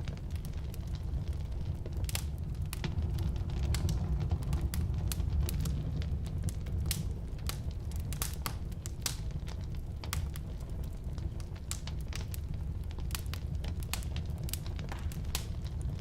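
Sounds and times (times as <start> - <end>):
firewood burning and crackling: 0.0 - 16.0.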